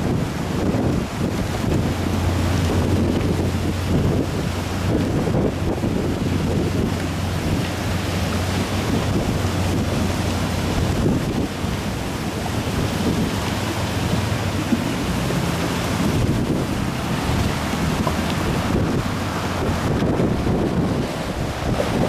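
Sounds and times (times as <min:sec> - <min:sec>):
fast-flowing river rushing: 0:00.0 - 0:22.0
wind buffeting microphone: 0:00.0 - 0:22.0.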